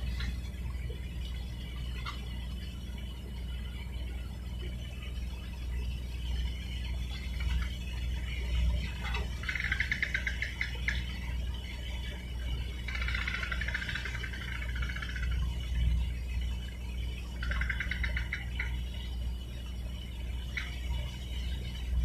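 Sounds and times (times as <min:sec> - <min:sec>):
pulsed chirping trill: 0:00.0 - 0:22.0
ship machinery hum: 0:00.0 - 0:22.0.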